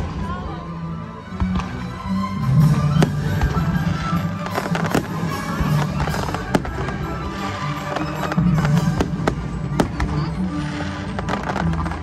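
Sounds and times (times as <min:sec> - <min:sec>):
music soundtrack: 0:00.0 - 0:12.0.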